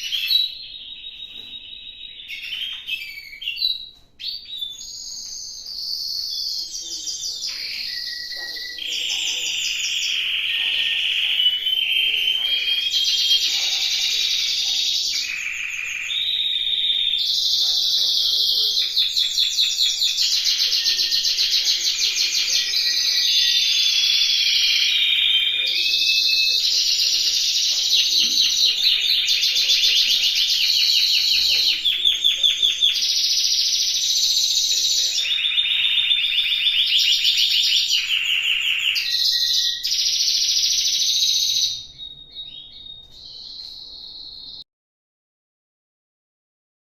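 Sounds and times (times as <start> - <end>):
canary singing trills: 0.0 - 44.6.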